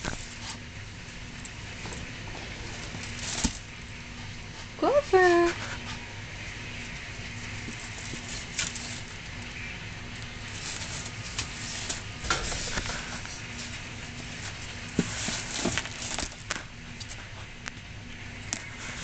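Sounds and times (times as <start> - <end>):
rabbit rustling in hay: 0.0 - 19.0
steady low hum: 0.0 - 19.0.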